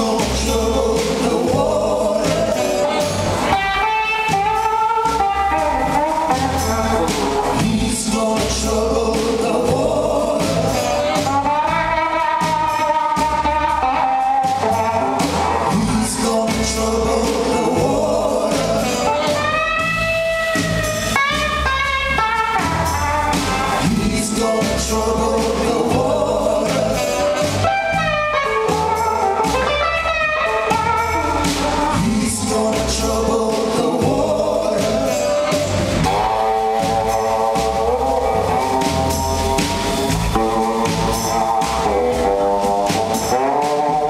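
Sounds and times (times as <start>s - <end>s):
woman singing lead: 0.0s - 20.0s, 22.2s - 29.9s, 30.6s - 39.0s
live band playing: 0.0s - 44.0s.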